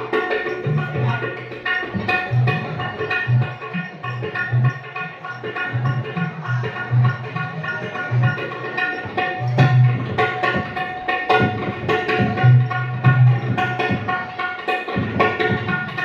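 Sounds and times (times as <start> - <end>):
hand drum playing: 0.0 - 16.0
sustained melodic accompaniment: 0.0 - 16.0.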